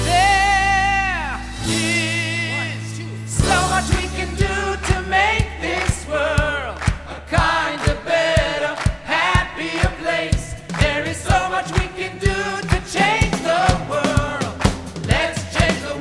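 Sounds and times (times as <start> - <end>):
song with drum beat: 0.0 - 16.0.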